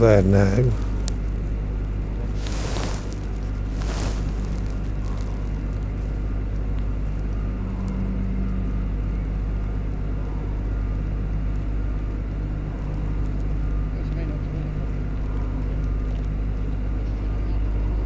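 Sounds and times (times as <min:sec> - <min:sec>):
machine engine droning: 0:00.0 - 0:18.0.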